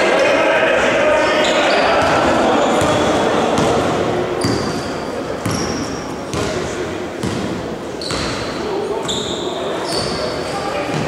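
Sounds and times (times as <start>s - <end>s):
sneakers squeaking on court: 1.4s - 6.6s, 7.2s - 11.0s.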